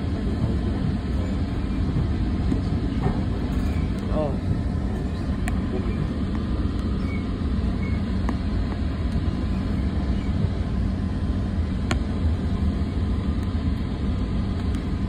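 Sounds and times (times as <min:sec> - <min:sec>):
commuter train rumbling: 0:00.0 - 0:15.0.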